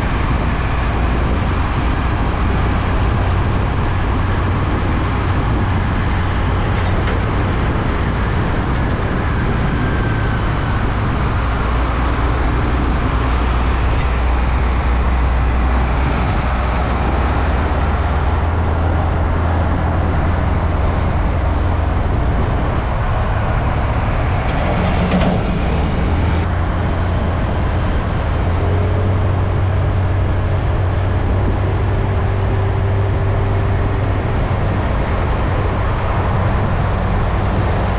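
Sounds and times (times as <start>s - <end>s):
truck engine drone: 0.0s - 37.9s
tyre and road noise: 0.0s - 37.9s.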